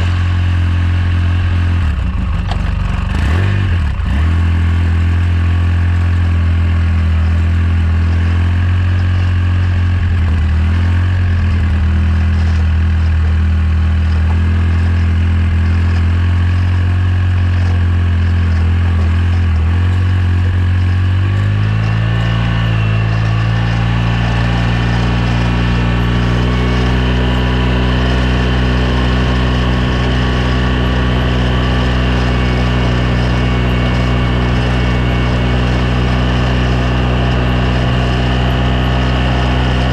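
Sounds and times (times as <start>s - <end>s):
off-road vehicle engine running: 0.0s - 39.9s
rattle from rear end: 0.1s - 39.9s.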